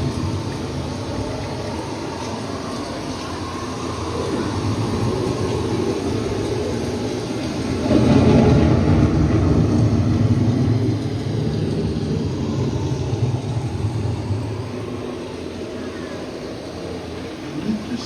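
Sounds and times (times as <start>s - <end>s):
rolling thunder rumble: 0.0s - 18.0s.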